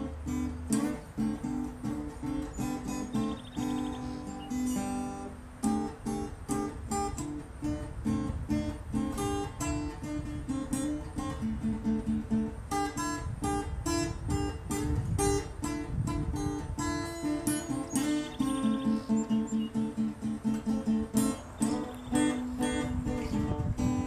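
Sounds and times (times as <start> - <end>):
acoustic guitar plucking: 0.0 - 24.0.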